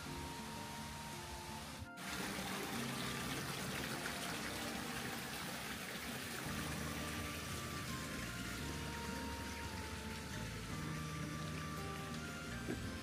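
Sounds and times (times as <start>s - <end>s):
small stream trickling: 0.0s - 13.0s.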